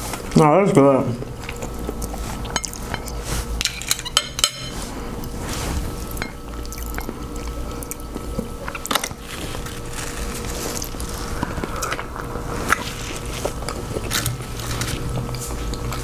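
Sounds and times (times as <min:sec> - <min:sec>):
wet food squelching: 0:01.2 - 0:16.0.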